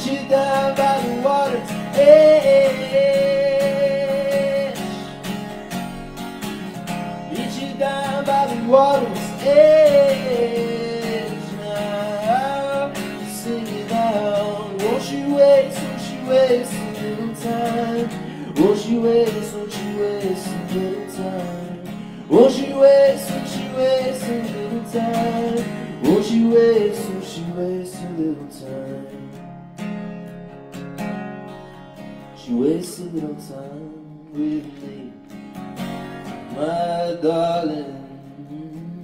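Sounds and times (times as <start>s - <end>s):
man singing: 0.0s - 5.4s, 7.2s - 29.4s, 32.4s - 35.4s, 36.4s - 39.0s
strummed acoustic guitar: 0.0s - 39.0s.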